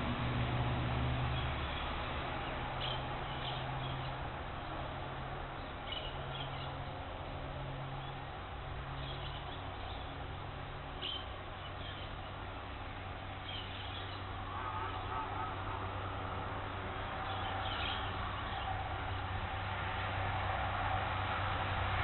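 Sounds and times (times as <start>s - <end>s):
birds chirping: 1.3s - 19.6s.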